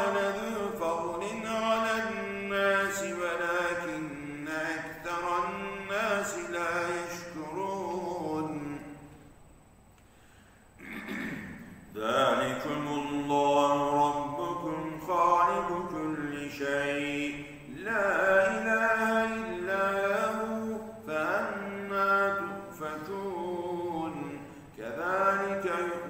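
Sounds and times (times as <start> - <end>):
man chanting melodically: 0.0 - 9.0, 11.9 - 26.0.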